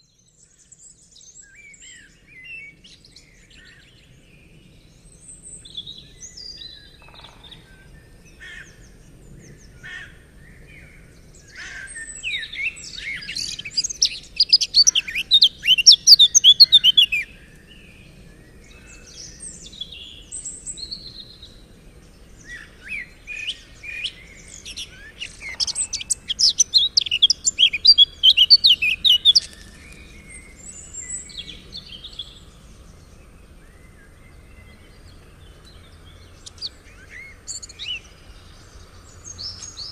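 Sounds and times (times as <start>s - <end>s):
songbirds twittering song: 0.0s - 39.9s.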